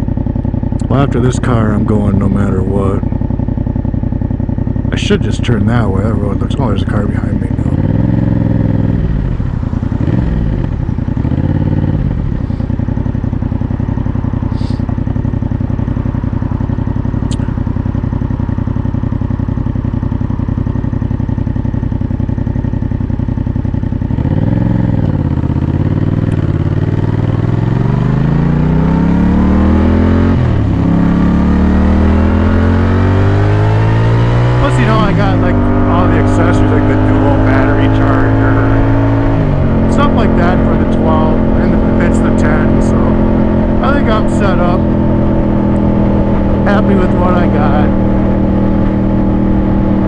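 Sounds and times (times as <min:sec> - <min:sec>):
motorcycle engine idling: 0:00.0 - 0:50.0
motorcycle accelerating away: 0:04.2 - 0:50.0.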